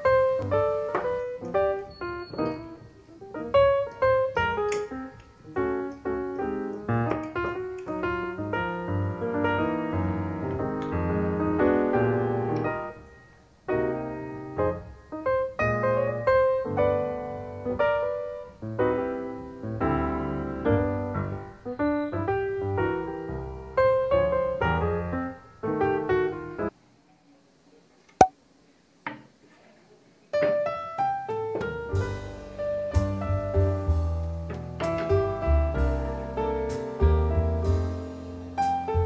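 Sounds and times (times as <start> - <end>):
gentle piano music: 0.0 - 26.7, 30.4 - 39.0.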